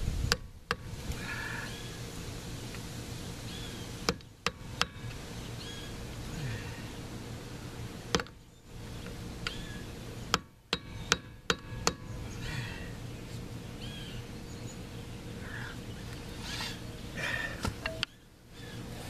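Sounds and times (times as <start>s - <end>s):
birds chirping: 1.1s - 19.0s.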